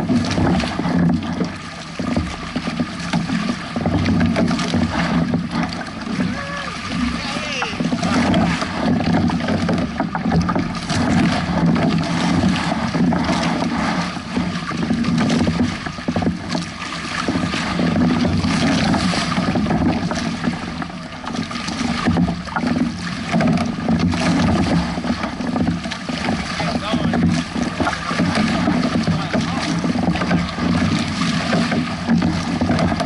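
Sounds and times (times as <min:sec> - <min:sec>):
water splashing along hulls: 0:00.0 - 0:33.0.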